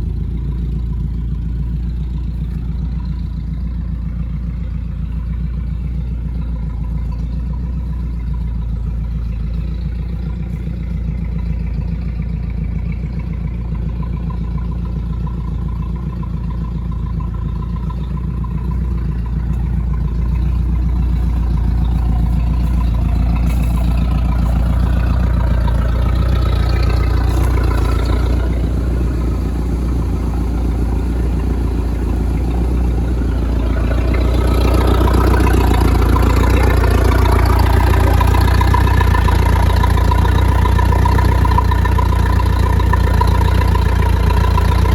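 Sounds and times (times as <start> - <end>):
boat engine idling: 0.0 - 44.9.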